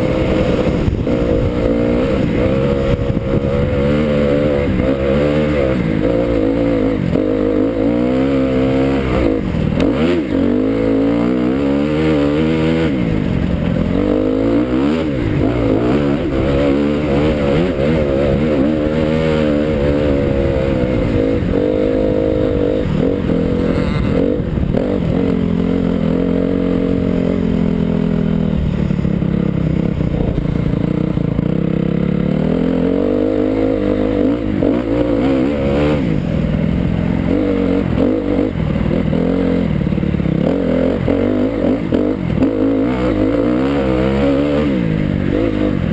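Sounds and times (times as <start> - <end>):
motocross bike engine revving: 0.0 - 45.9.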